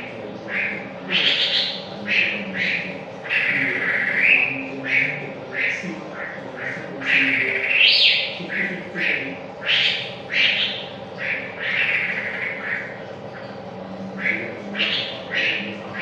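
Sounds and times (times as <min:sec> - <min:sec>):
bird singing harsh notes: 0:00.0 - 0:13.5, 0:14.2 - 0:16.0.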